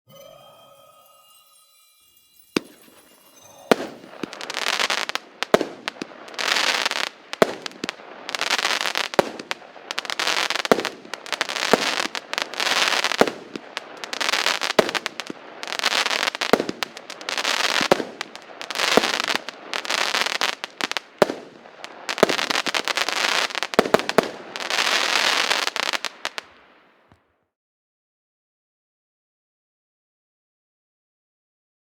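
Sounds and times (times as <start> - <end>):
crackling firework stars: 0.1 - 27.2.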